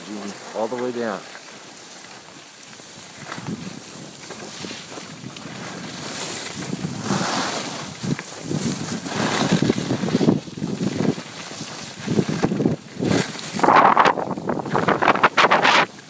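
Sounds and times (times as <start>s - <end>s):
skis scraping on snow: 0.0s - 16.0s
wind buffeting microphone: 3.0s - 16.0s.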